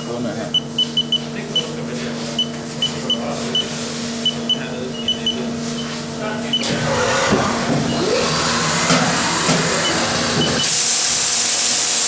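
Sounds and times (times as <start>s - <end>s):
milling machine electrical hum: 0.0s - 12.0s.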